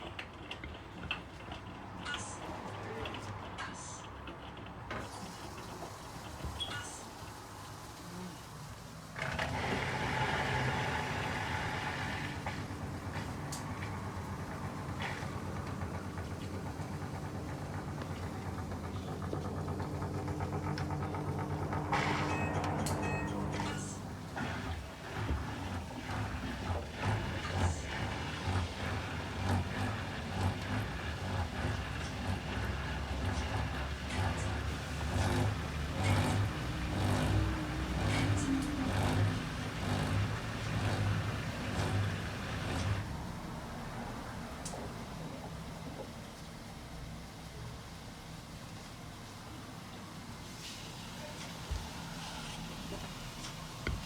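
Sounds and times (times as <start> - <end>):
washing machine drain pump grinding: 0.0 - 3.6, 4.3 - 54.0.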